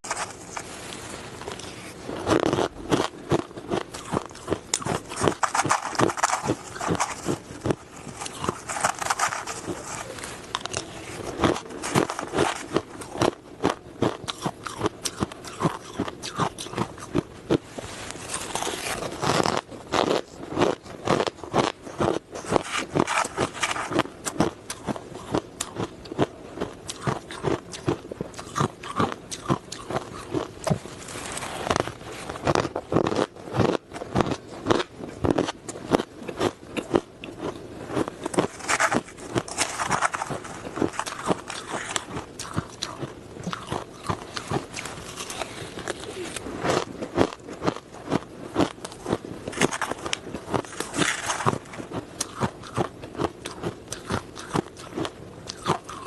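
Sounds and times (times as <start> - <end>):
ice crunching being chewed: 0.0 - 56.0.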